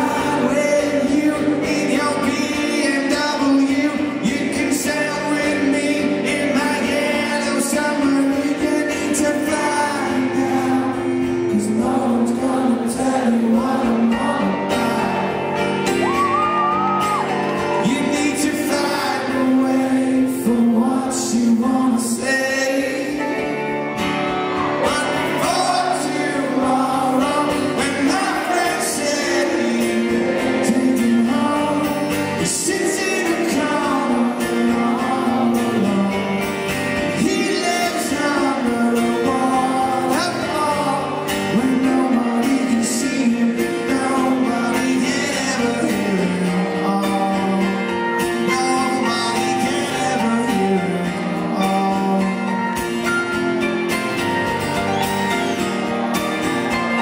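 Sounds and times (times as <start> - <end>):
man singing into microphone: 0.0 - 23.9, 24.8 - 53.2
strummed acoustic guitar: 0.0 - 57.0.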